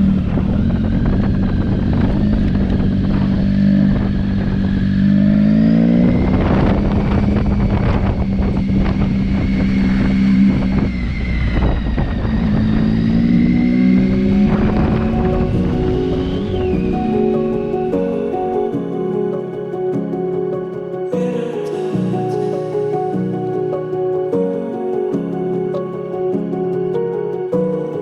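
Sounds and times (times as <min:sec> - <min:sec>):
wind rush: 0:00.0 - 0:28.0.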